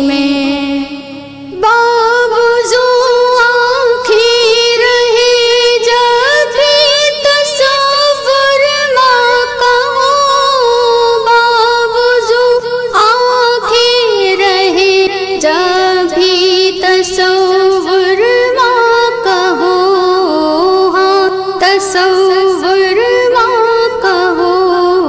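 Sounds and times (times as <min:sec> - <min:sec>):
woman singing with vibrato: 0:00.0 - 0:25.0.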